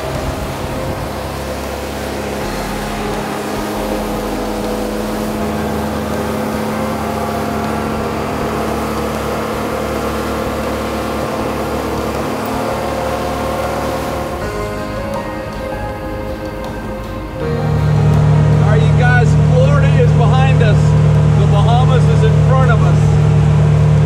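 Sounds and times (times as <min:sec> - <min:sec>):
outboard engine drone: 0:00.0 - 0:24.0
water rushing past hull: 0:00.0 - 0:24.0.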